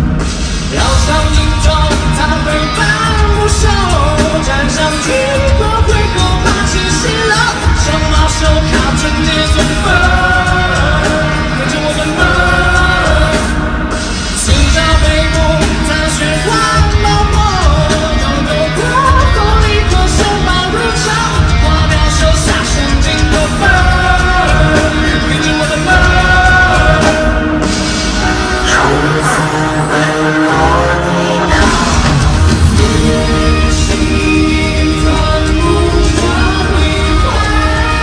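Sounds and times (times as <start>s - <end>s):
live rock-pop song with full band: 0.0s - 38.0s
man singing: 0.6s - 38.0s.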